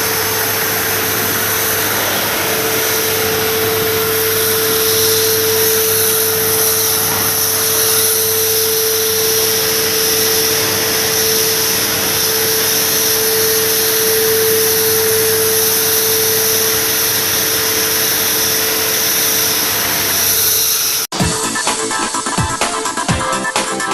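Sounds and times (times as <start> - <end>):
pressure washer spraying: 0.0 - 22.4.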